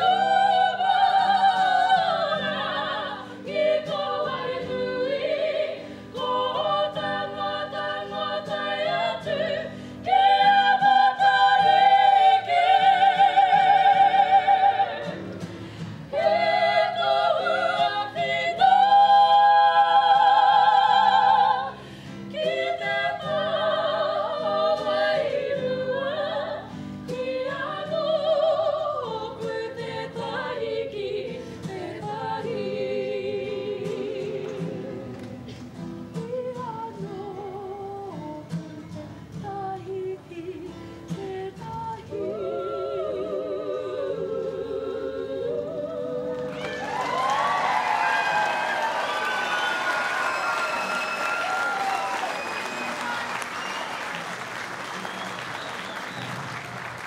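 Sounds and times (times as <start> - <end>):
women singing together: 0.0 - 48.8.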